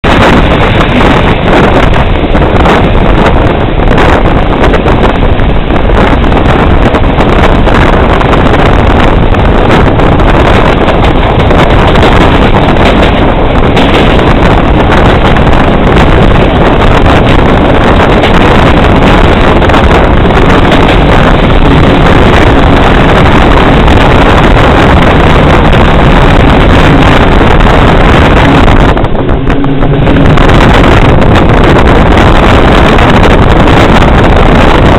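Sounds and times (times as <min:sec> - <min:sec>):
moving train running noise: 0:00.0 - 0:34.9
wind buffeting microphone: 0:00.0 - 0:34.9.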